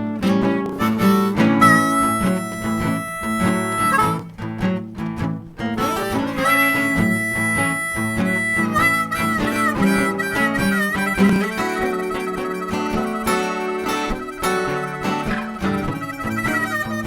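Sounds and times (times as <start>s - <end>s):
guitar accompaniment: 0.0s - 17.0s
harmonica solo with bent notes: 0.6s - 4.5s, 5.7s - 17.0s.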